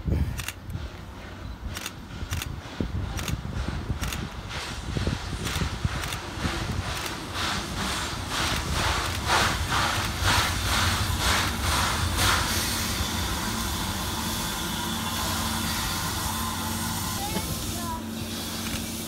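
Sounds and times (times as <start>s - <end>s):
train rolling rumble and hiss: 0.0s - 19.0s
steam locomotive chuffing: 0.3s - 19.0s.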